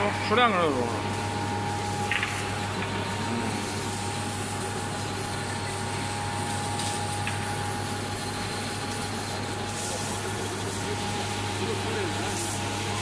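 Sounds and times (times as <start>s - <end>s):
high steady whine: 0.0s - 13.0s.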